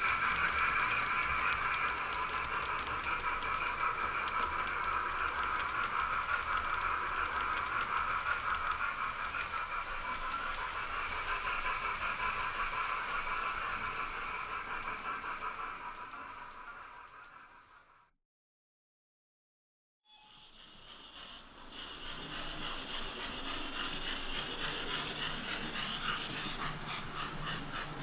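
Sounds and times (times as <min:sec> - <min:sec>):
model train rolling on track: 0:00.0 - 0:18.1, 0:20.1 - 0:28.0.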